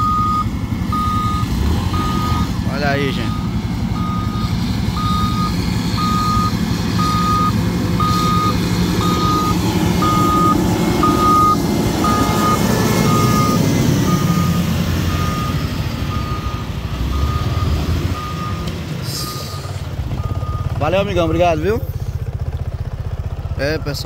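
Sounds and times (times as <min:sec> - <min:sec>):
reversing alarm beeping: 0:00.0 - 0:21.3
engine rumble: 0:00.0 - 0:24.0.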